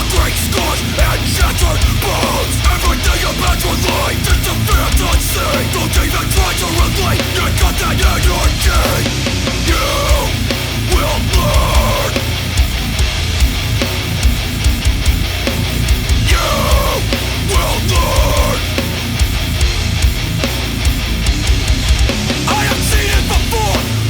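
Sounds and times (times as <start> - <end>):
heavy metal music: 0.0 - 24.0.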